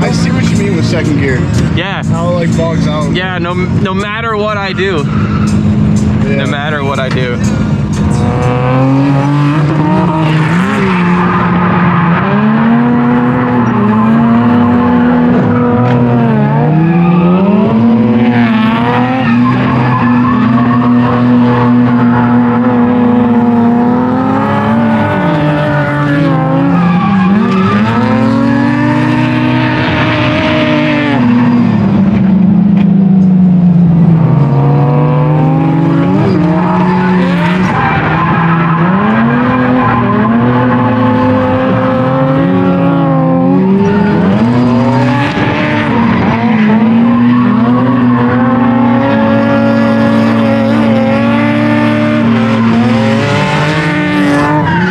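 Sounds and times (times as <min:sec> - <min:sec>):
rotary engine revving: 0:00.0 - 0:54.9
tires squealing: 0:00.0 - 0:54.9.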